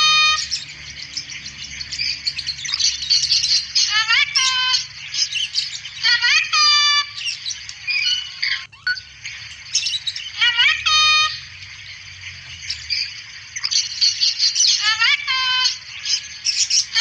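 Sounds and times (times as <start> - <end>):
cockatoo calling: 0.0 - 17.0
small birds twittering: 0.0 - 17.0.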